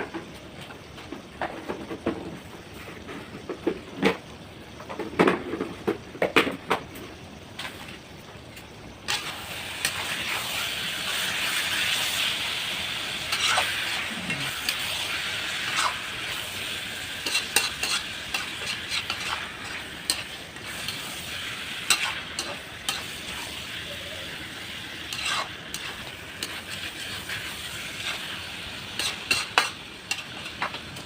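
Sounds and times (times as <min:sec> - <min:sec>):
food frying in a pan: 0:00.0 - 0:31.0.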